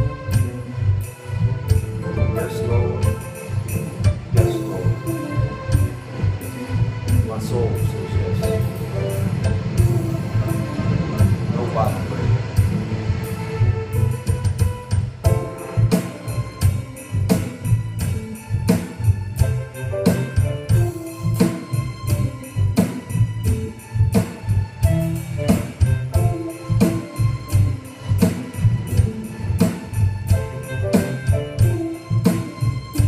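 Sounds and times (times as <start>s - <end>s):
bass line: 0.0s - 33.0s
held melodic notes: 0.0s - 33.0s
drum beat: 1.7s - 6.1s, 7.1s - 33.0s.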